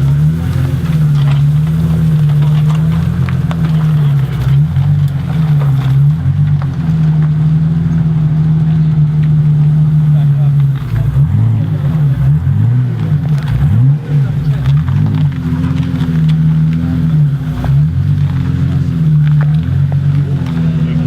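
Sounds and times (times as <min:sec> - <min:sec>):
car engine running at low revs: 0:00.0 - 0:21.0.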